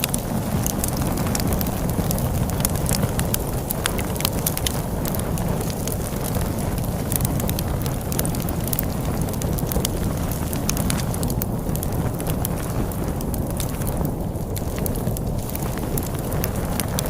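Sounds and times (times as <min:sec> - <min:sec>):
log fire crackling and popping: 0:00.0 - 0:17.0
low rumble of storm wind: 0:00.0 - 0:17.0.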